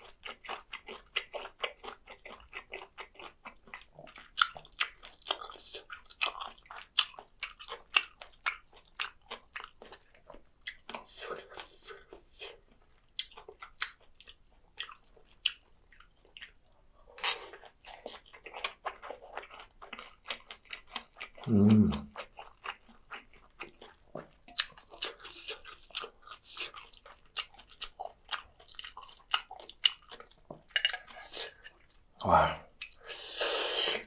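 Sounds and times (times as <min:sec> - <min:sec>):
close-miked chewing: 0:00.0 - 0:34.0.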